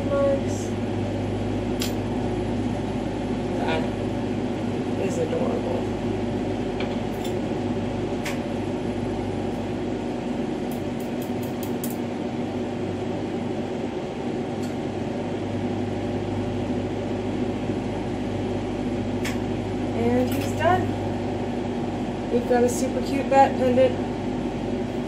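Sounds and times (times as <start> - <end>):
torch flame rushing hum: 0.0 - 25.0.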